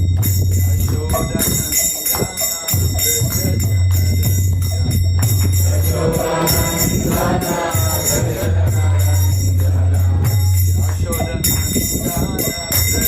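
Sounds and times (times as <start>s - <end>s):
hand cymbals ringing: 0.0s - 13.0s
voices singing: 0.8s - 13.0s.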